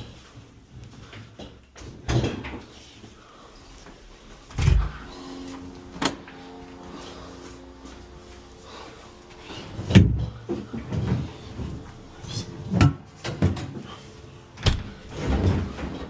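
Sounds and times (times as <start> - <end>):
low steady hum: 2.8 - 16.0.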